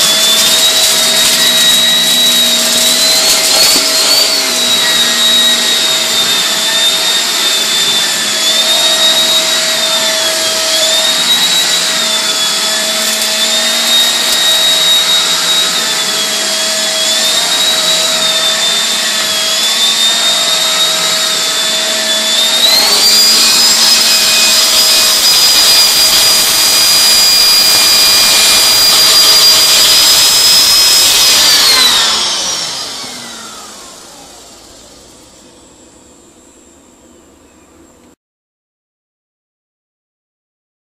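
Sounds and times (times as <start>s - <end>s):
vacuum cleaner motor whining: 0.0s - 38.2s.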